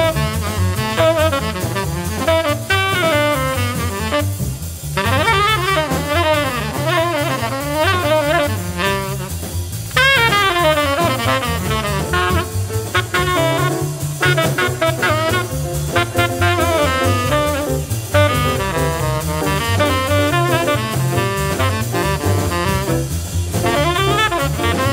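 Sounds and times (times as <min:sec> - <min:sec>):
double bass: 0:00.0 - 0:24.9
drum kit: 0:00.0 - 0:24.9
tenor saxophone runs: 0:00.0 - 0:24.9.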